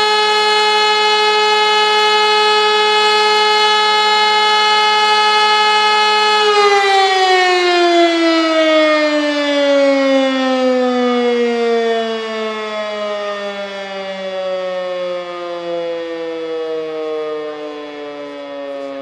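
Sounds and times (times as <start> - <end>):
rotary siren winding down: 0.0 - 19.0.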